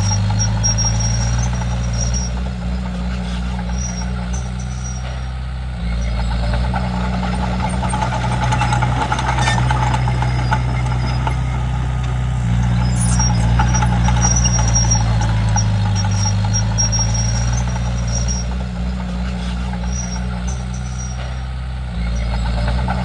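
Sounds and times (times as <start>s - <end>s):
high-pitched squeal: 0.0s - 5.3s, 5.9s - 21.4s
bulldozer diesel engine running: 0.0s - 23.0s.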